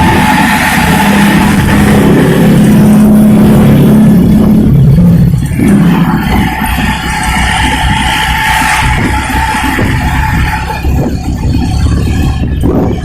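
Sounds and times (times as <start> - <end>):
bus diesel engine with loud exhaust: 0.0 - 13.0.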